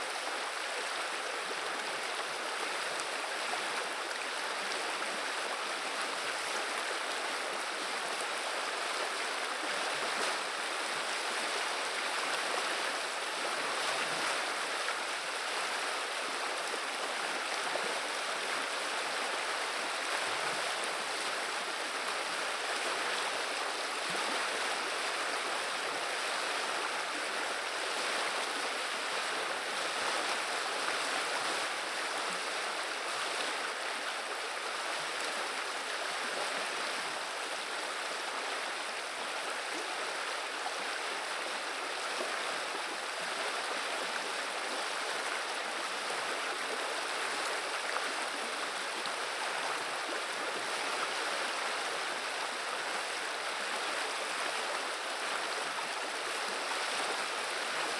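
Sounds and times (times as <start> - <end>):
river water babbling: 0.0 - 57.9.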